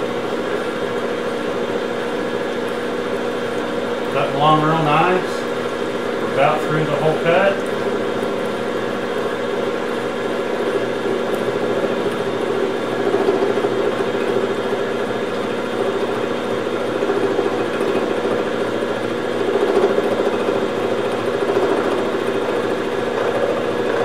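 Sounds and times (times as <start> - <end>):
milling machine humming: 0.0 - 24.0.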